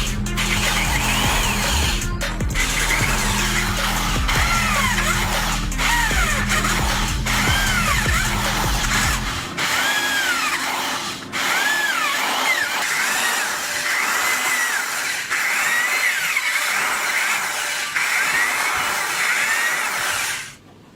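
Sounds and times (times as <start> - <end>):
electric drill whining: 0.0 - 20.6.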